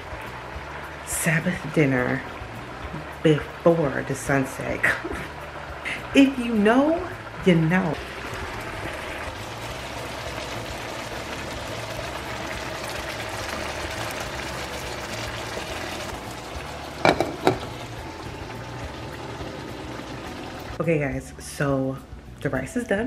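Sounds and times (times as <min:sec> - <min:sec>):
food sizzling in a pan: 0:00.0 - 0:20.8.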